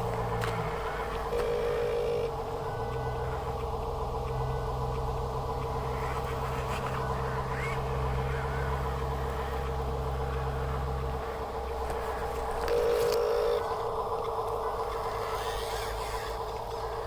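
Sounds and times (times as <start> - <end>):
steady high whine: 0.0 - 17.0
vehicle engine low hum: 0.0 - 17.0.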